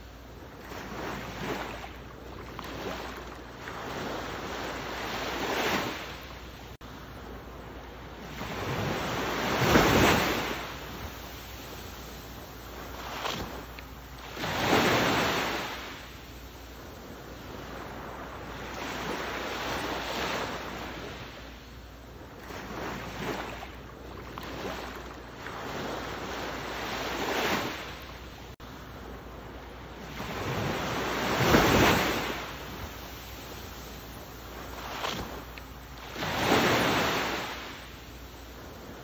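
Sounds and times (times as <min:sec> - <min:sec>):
waves breaking: 0:00.0 - 0:39.0.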